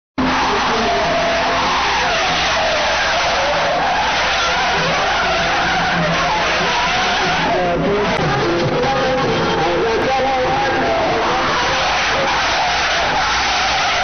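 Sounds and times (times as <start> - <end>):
car engine: 0.2 - 14.0
tyres screeching: 0.2 - 14.0.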